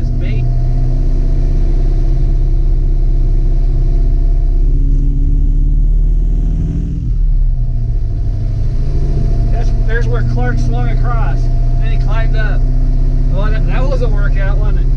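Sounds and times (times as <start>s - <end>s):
car engine droning: 0.0s - 14.9s.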